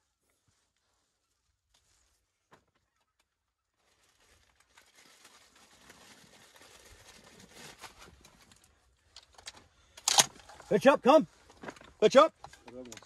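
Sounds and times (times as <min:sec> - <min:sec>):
faint rustling and crinkling: 0:00.0 - 0:13.0.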